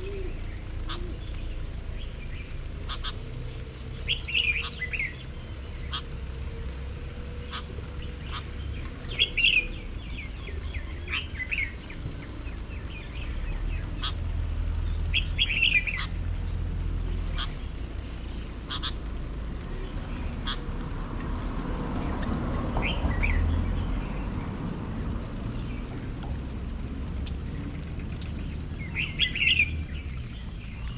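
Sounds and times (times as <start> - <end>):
small birds chirping: 0.0 - 30.9
steady low rumble: 0.0 - 30.9.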